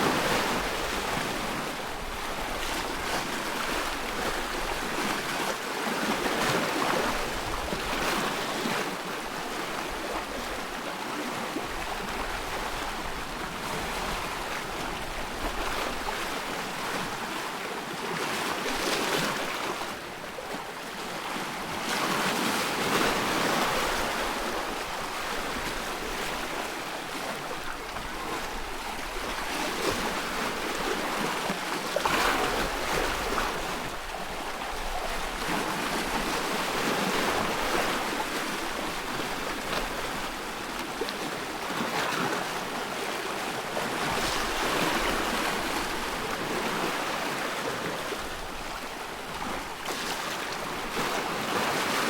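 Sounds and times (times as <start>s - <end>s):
water lapping and splashing: 0.0s - 52.0s.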